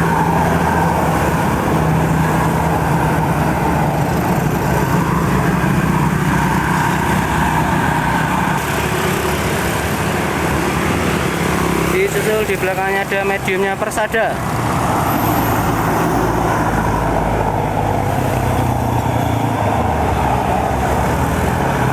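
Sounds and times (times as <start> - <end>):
bus diesel engine droning: 0.0 - 21.9.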